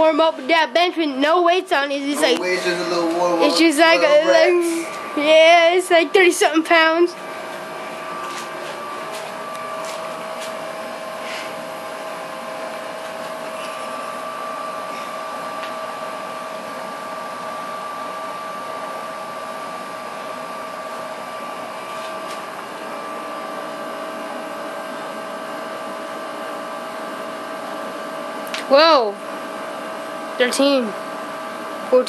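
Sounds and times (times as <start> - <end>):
motor whirring with whine: 1.8 - 32.0.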